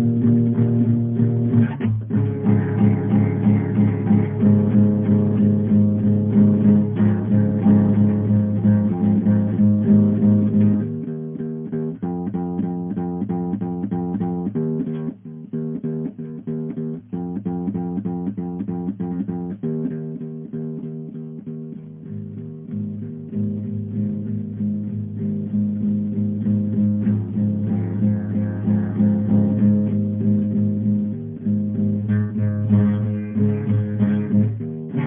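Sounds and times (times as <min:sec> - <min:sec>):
plucked guitar music: 0:00.0 - 0:35.0.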